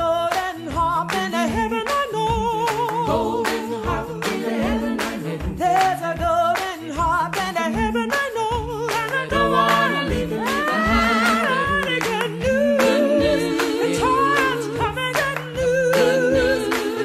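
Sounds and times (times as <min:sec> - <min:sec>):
lead voice singing with vibrato: 0:00.0 - 0:17.0
steady beat: 0:00.0 - 0:17.0.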